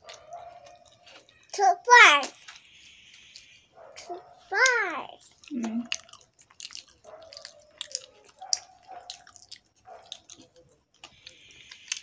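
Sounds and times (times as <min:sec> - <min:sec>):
wet chewing and lip-smacking: 0:00.0 - 0:01.6, 0:02.2 - 0:12.0.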